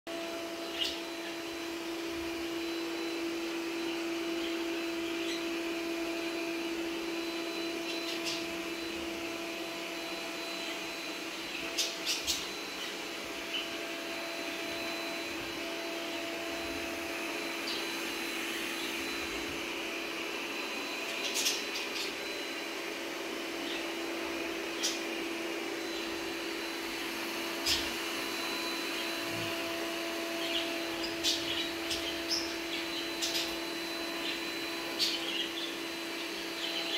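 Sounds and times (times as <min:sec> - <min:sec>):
robot vacuum cleaner humming: 0:00.1 - 0:36.9.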